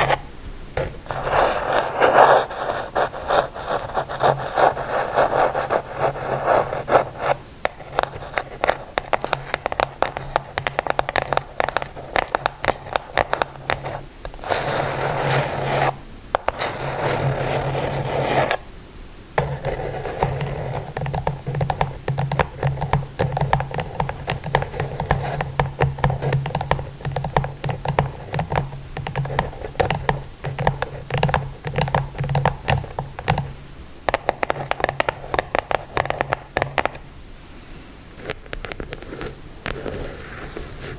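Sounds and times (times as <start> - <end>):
scratching on a surface: 0.0 - 18.6, 19.4 - 37.0, 38.2 - 40.9
rapid tapping on a surface: 0.8 - 18.6, 19.4 - 37.0.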